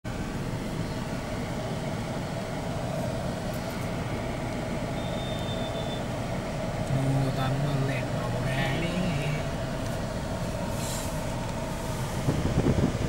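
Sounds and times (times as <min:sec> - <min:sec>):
city traffic heard from inside car: 0:00.0 - 0:13.0.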